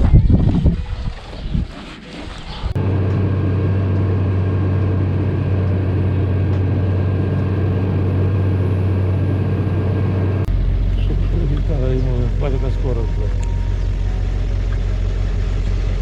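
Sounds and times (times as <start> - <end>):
heavy machine engine droning: 2.7 - 16.0.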